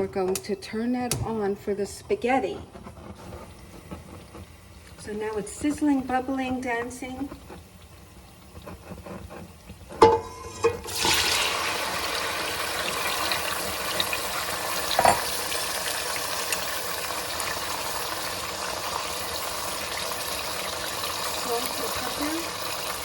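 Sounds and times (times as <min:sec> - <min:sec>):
oil and garlic sizzling in pan: 0:00.7 - 0:23.0.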